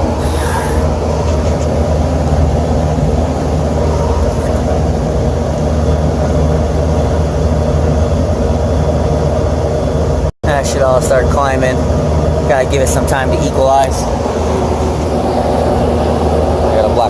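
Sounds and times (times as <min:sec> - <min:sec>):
air conditioning unit humming: 0:00.0 - 0:17.0.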